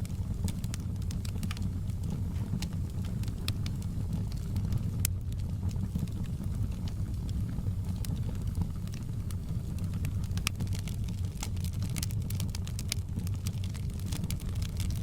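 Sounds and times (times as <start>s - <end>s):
fire burning in a fireplace: 0.0s - 15.0s
fire crackles and pops: 0.0s - 15.0s.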